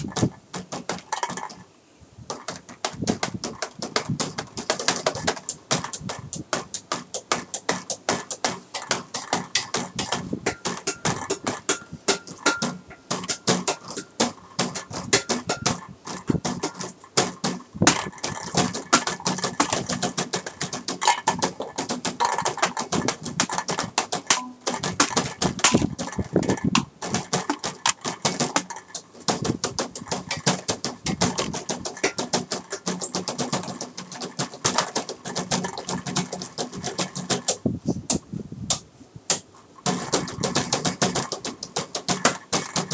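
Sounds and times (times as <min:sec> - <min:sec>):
tapping on everyday objects: 0:00.0 - 0:01.7, 0:02.3 - 0:42.9.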